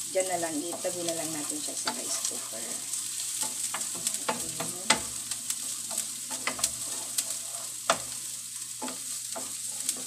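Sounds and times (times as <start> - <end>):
garlic and onion sizzling in oil: 0.0 - 10.0
wooden spatula scraping a pan: 0.5 - 10.0.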